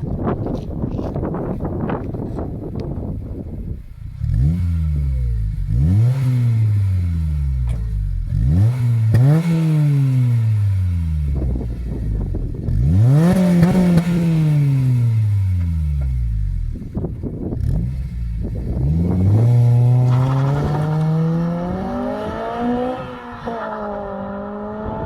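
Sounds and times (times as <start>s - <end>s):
car engine revving: 4.2s - 25.0s.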